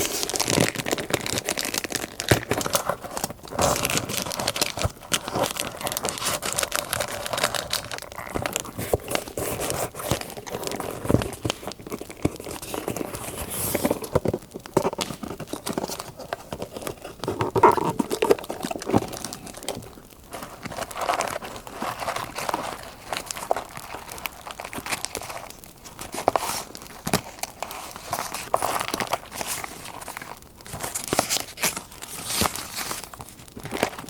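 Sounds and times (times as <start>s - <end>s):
paper crinkling and rustling: 0.0s - 34.0s.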